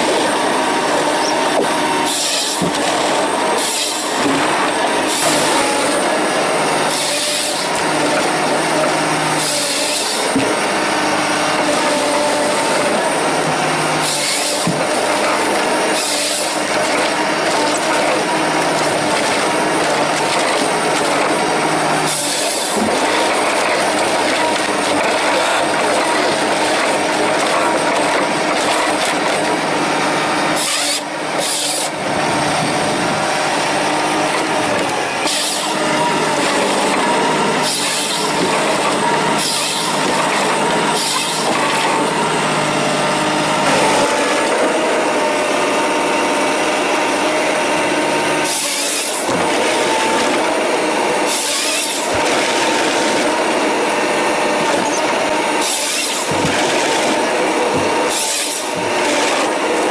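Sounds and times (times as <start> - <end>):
harsh saw and delimbing bursts: 0.0 - 59.9
machine engine and hydraulics: 0.0 - 59.9.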